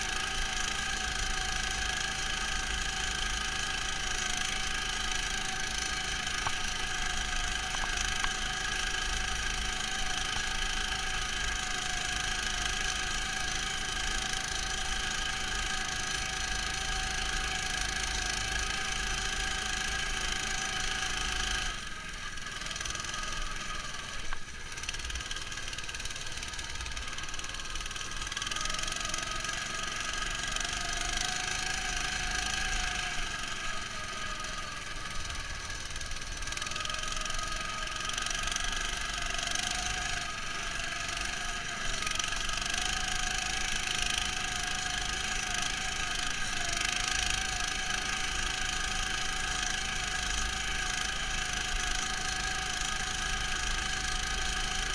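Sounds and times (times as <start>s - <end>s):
muffled engine running: 0.0s - 54.9s.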